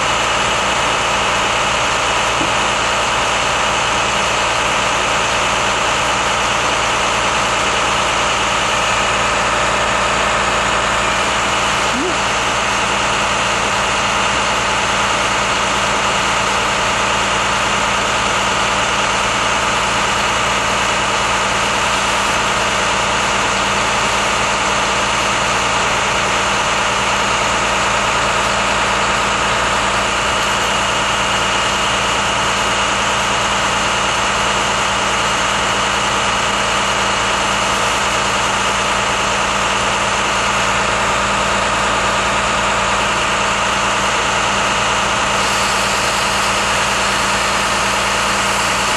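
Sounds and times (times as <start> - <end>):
large engine idling: 0.0 - 48.9.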